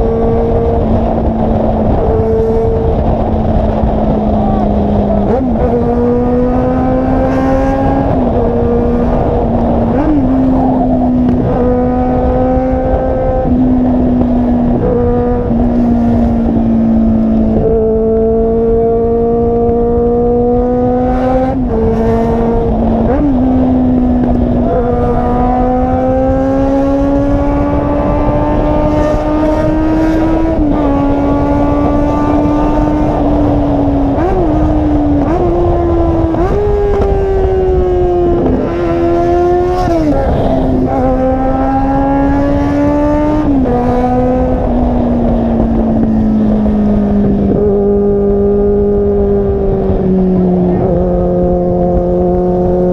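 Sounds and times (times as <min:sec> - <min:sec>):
car engine and exhaust under load: 0:00.0 - 0:52.9.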